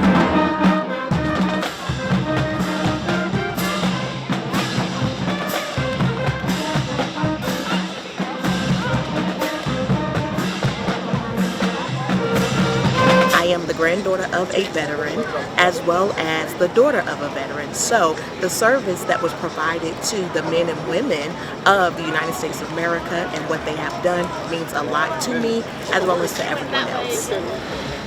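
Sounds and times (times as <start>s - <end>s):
held brass notes: 0.0s - 28.0s.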